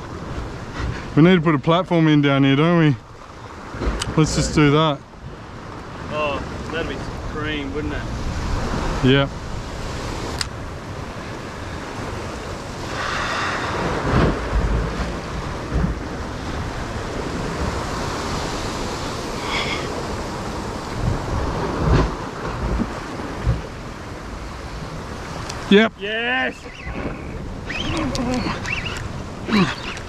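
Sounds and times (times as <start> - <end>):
ocean swell washing against rocks: 0.0 - 30.0
wind gusting on microphone: 0.0 - 30.0.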